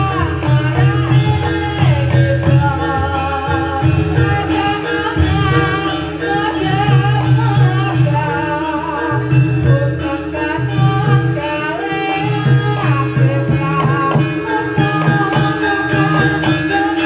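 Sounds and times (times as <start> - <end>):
instrumental accompaniment: 0.0 - 17.0
person singing ornamented melody: 0.0 - 17.0.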